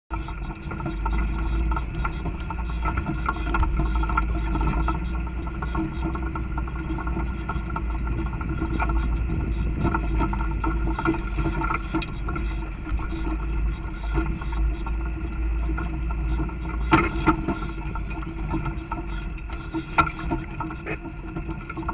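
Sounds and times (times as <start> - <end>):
vehicle engine and tyre rumble: 0.1 - 21.9.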